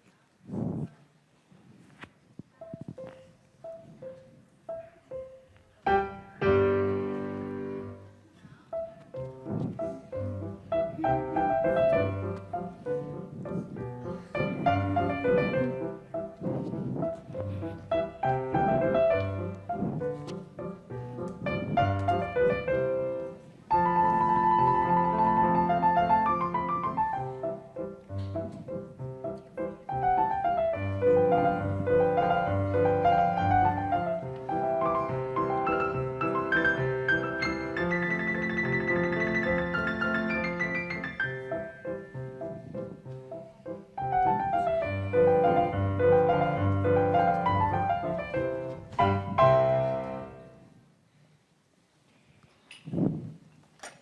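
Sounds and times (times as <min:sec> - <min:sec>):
piano music: 0:02.7 - 0:08.2, 0:08.8 - 0:50.7.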